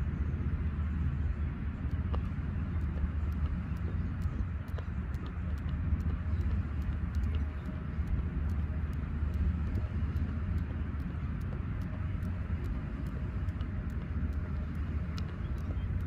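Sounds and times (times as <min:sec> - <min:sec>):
wind rumble on microphone: 0:00.0 - 0:16.0
skipping rope ticking on rock: 0:01.5 - 0:16.0.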